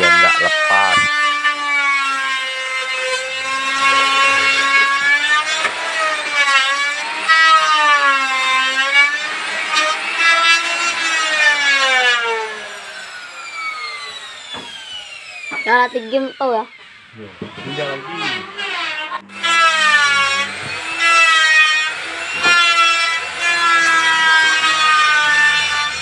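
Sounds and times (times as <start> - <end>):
power tool motor cutting wood: 0.0 - 26.0.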